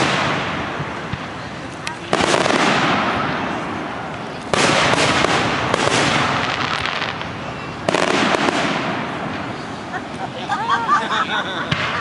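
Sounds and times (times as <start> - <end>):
crackling firework pops: 0.0 - 9.5, 11.7 - 12.0
fireworks booming: 0.0 - 10.3, 11.0 - 12.0.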